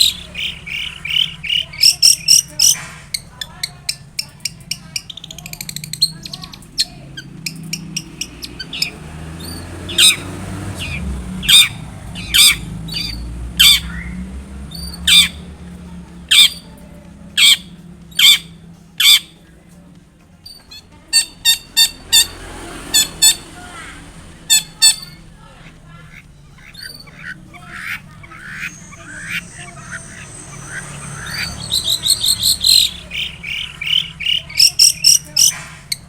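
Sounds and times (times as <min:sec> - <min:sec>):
shrike harsh calls: 0:00.0 - 0:19.5, 0:20.4 - 0:36.0.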